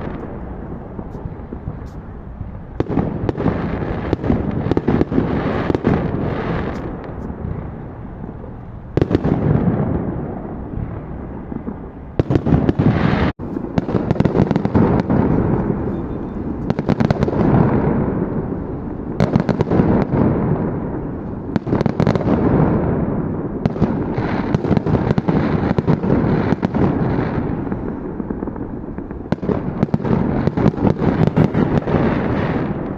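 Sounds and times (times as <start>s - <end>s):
fireworks crackling bangs: 0.0s - 32.9s
rumble of explosions: 0.0s - 32.9s.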